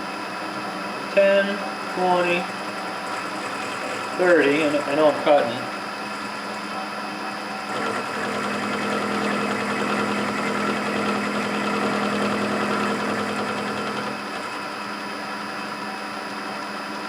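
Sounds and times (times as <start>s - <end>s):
milling machine cutting metal: 1.4s - 15.7s.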